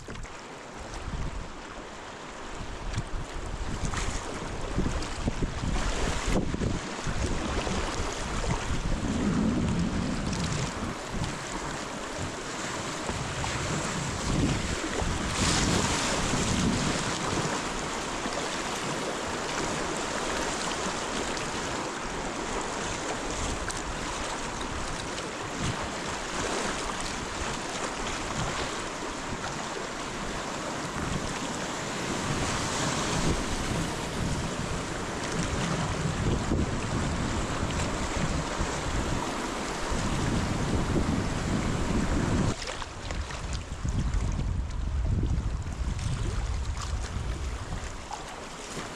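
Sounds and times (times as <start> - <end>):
river water rushing over rapids: 0.0 - 43.5, 47.6 - 48.9.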